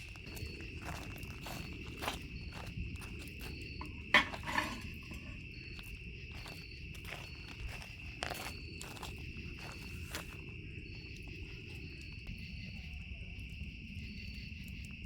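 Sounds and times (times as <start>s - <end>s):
faint insect chirp: 0.0s - 15.0s
insects trilling: 0.0s - 15.0s.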